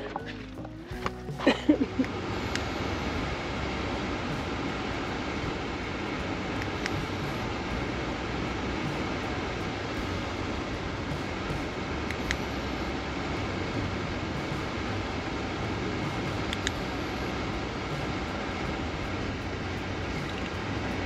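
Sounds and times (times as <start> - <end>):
rushing noise with low hum: 0.0 - 21.0.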